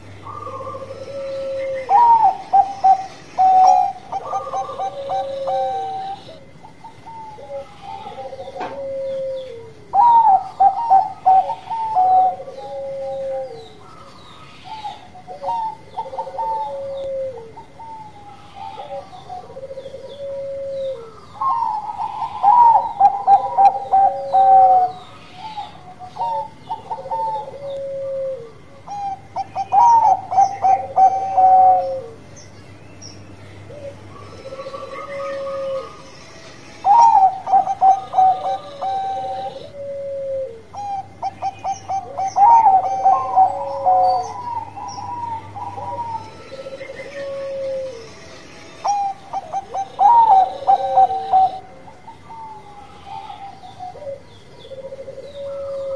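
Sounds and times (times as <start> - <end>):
dove cooing: 0.0 - 32.4, 33.4 - 55.9.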